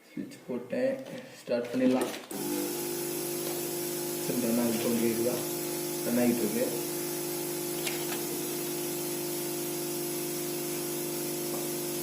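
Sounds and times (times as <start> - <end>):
blowing air hiss: 2.4 - 12.0.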